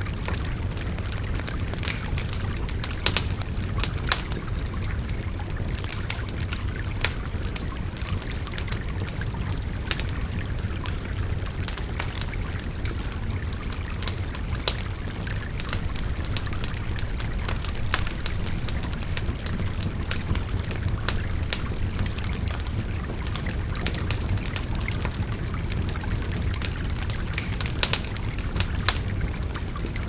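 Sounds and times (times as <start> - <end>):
bonfire crackling: 0.0 - 30.0.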